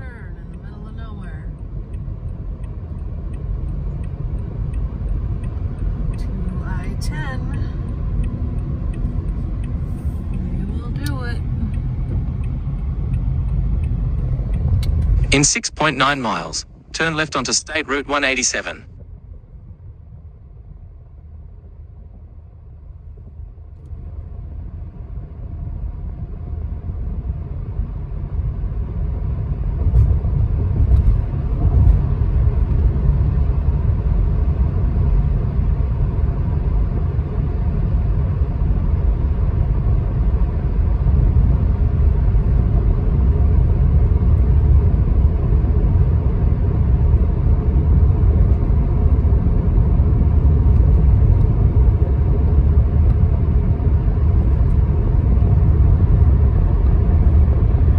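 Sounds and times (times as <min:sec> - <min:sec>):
road and engine rumble inside car: 0:00.0 - 0:57.9.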